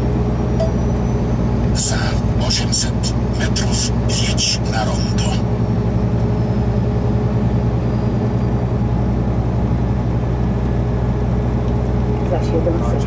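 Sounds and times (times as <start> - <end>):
lorry engine running: 0.0 - 13.0.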